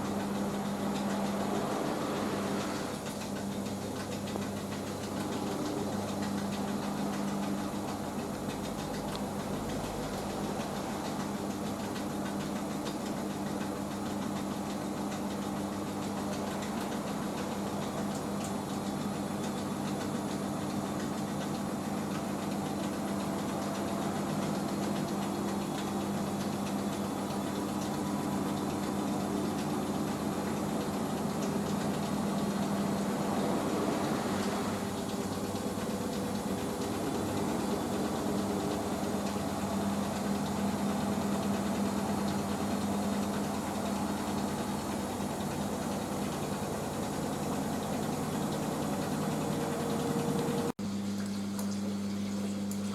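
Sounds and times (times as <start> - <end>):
washing machine spinning: 0.0 - 52.9.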